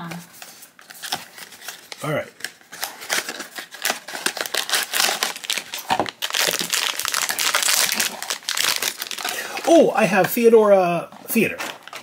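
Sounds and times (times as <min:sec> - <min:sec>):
foil bag crinkling: 0:00.8 - 0:09.8, 0:11.3 - 0:12.0.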